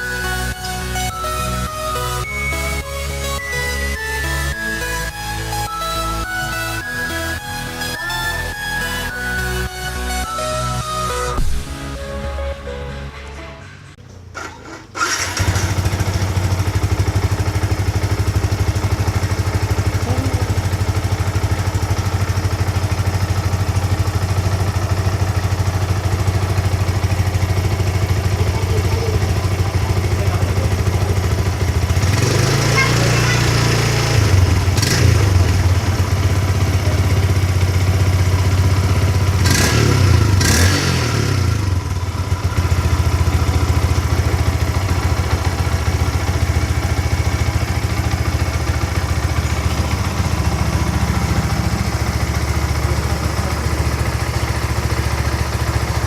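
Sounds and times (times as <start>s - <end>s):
motorcycle engine idling and revving: 0.0s - 12.0s, 14.0s - 56.0s.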